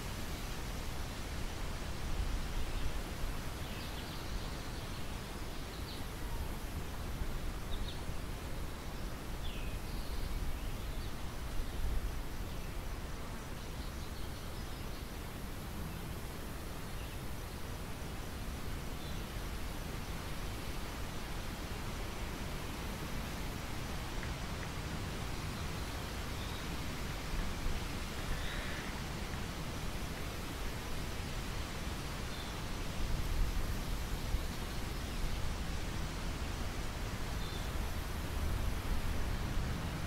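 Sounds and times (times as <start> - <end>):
wind rustling wheat: 0.0 - 40.0.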